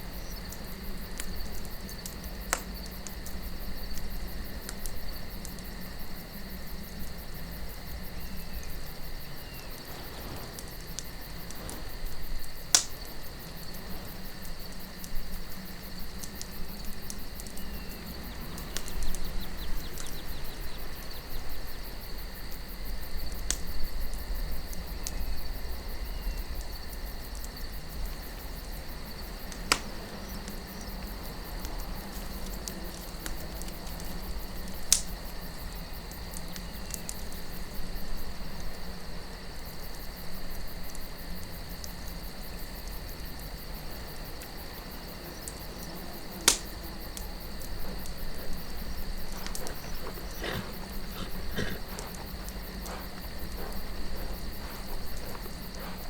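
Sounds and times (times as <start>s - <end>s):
campfire wood popping: 0.0s - 56.0s
crickets chirring: 0.0s - 56.0s
fire crackling: 0.0s - 56.0s.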